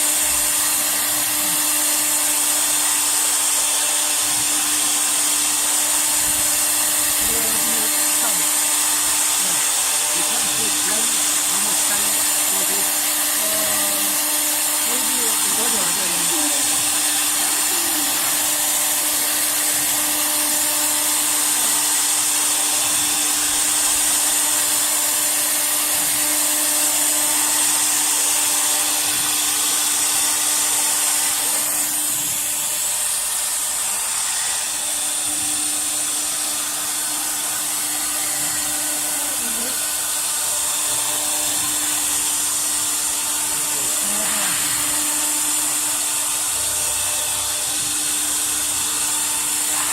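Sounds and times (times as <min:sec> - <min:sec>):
router spindle hissing and humming: 0:00.0 - 0:49.9.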